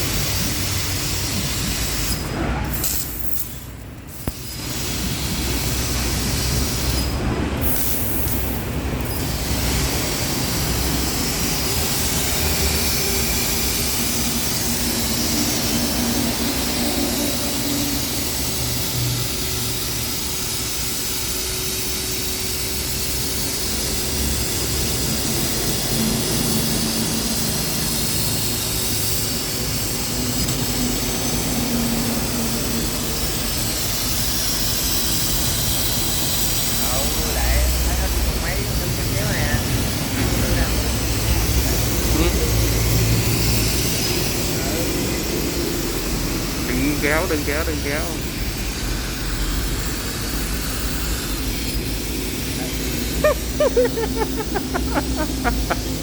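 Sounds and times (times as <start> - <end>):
machinery whirring drone: 0.0 - 56.0.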